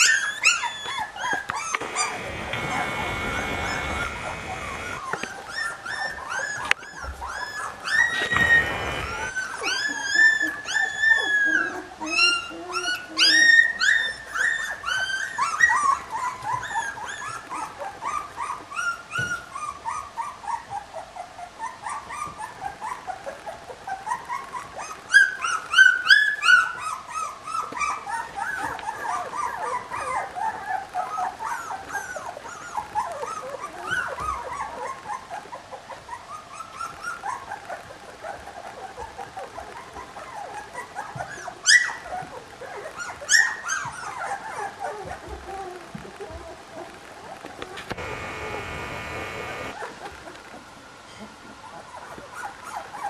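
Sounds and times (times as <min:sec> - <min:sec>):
puppies whimpering and squeaking: 0:00.0 - 0:53.0.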